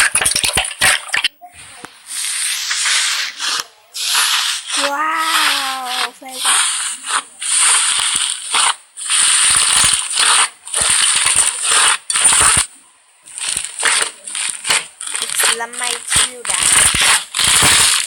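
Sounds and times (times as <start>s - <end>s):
slime crackling and popping: 0.0s - 1.3s, 2.2s - 18.0s.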